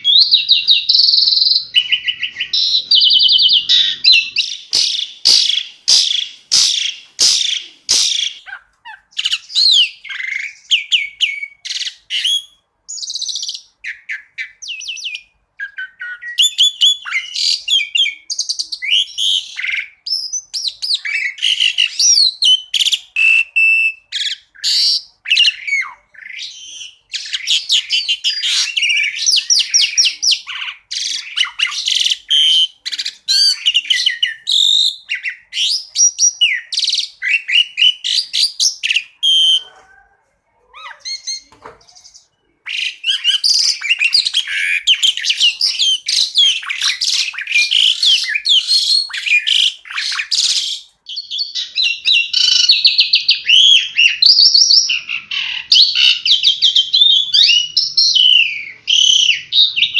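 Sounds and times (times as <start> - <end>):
bird singing chirps and whistles: 0.0 - 39.8, 40.8 - 59.9.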